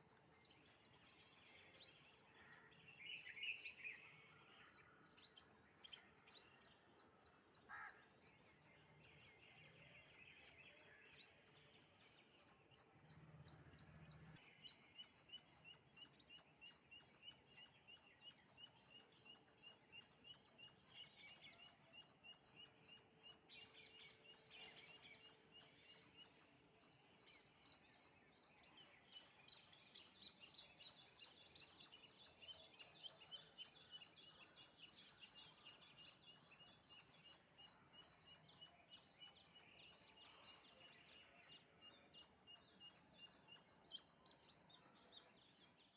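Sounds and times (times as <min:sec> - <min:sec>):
sparrows chirping: 0:00.0 - 0:45.9.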